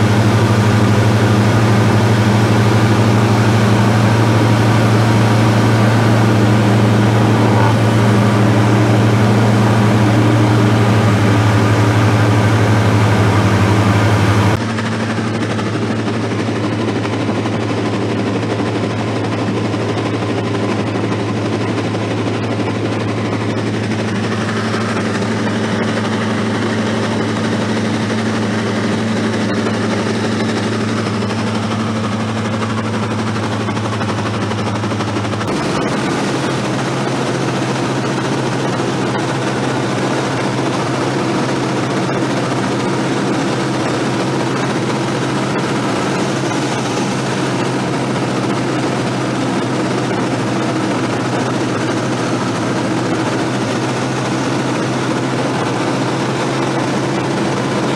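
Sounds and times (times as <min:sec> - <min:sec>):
propeller aircraft engine droning: 0:00.0 - 0:57.9.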